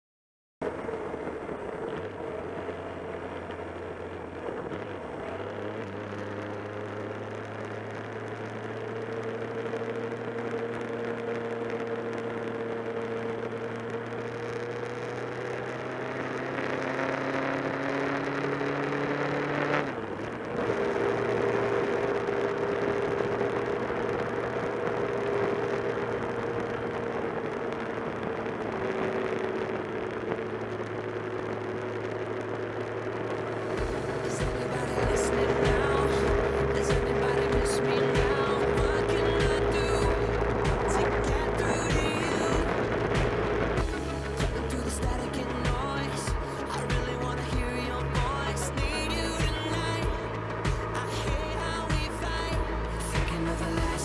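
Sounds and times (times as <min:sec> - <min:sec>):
motorcycle engine running: 0:00.6 - 0:54.0.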